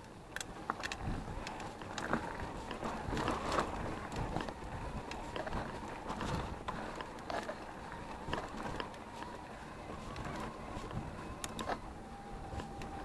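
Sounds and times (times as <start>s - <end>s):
bike rattling and knocking: 0.0s - 11.8s
bike tyres on dirt and stone: 0.0s - 13.0s.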